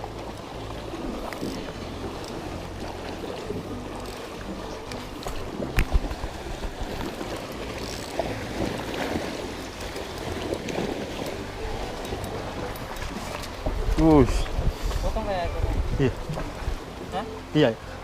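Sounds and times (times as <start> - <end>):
wind rumbling on microphone: 0.0 - 17.2
sea water washing: 0.0 - 18.0.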